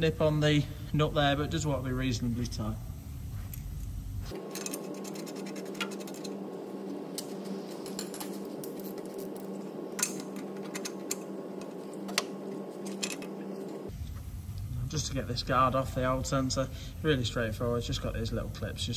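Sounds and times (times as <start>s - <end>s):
low steady hum: 0.0s - 18.9s.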